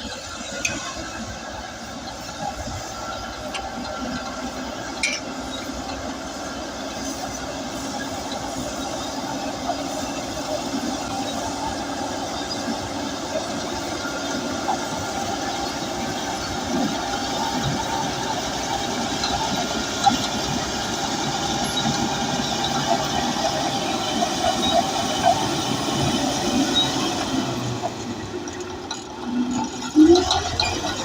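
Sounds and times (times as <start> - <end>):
bulldozer diesel engine running: 0.0 - 31.0
steel tracks clattering: 0.0 - 31.0.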